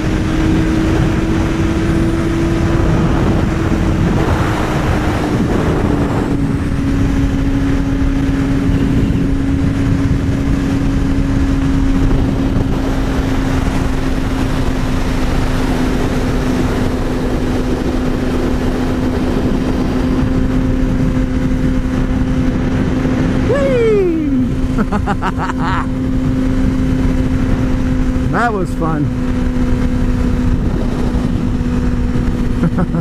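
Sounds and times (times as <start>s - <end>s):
motorcycle engine cruising: 0.0s - 33.0s
wind rush on microphone: 0.0s - 33.0s.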